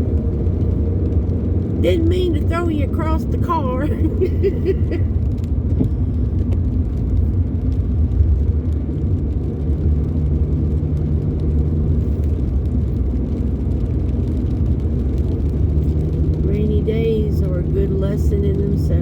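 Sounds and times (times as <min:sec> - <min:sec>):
car engine and tyres on road: 0:00.0 - 0:19.0
rain: 0:00.0 - 0:19.0.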